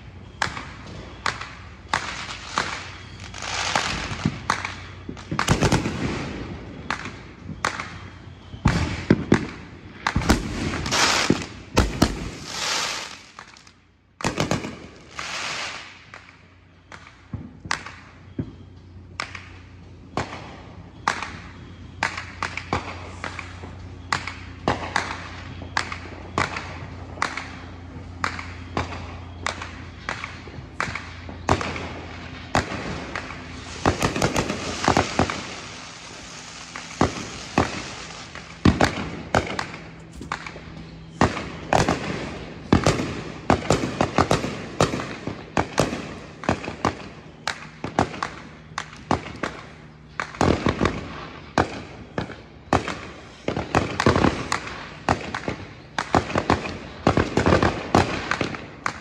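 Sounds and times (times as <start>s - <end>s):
fireworks crackling hiss: 0.0s - 18.5s, 19.4s - 59.0s
fireworks bangs and pops: 0.0s - 59.0s.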